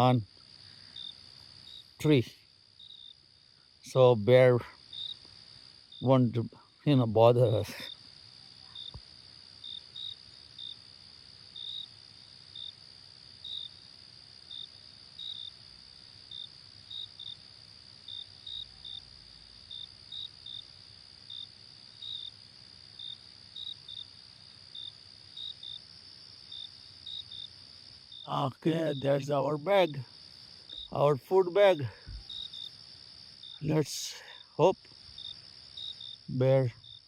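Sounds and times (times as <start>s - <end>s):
insect chirps: 0.0s - 37.0s
insect high trill: 0.0s - 37.0s.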